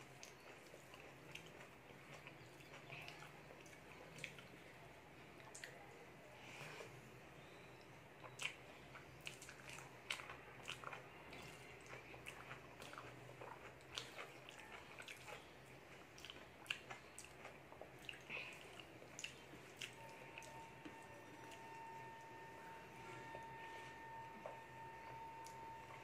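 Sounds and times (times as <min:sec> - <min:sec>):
chewing: 0:00.0 - 0:26.0.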